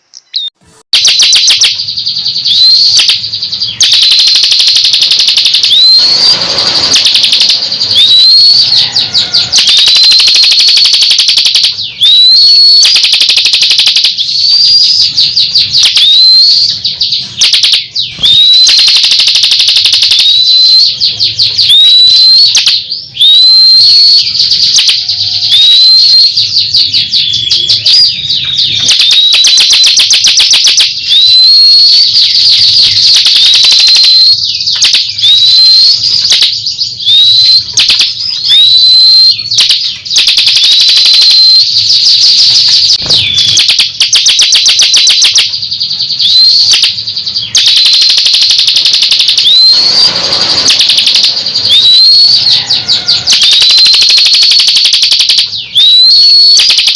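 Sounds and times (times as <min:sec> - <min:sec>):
songbird singing with trills: 0:01.4 - 0:54.1.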